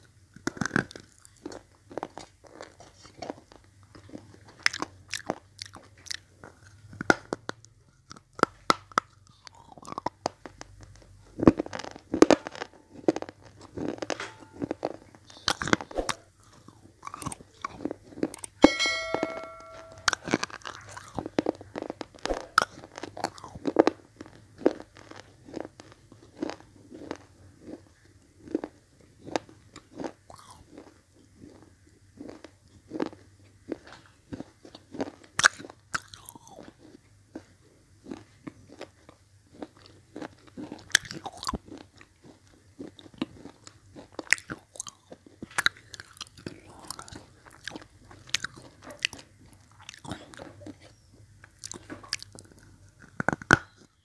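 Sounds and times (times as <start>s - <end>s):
crunching and chewing: 0.0s - 18.6s, 20.3s - 54.0s.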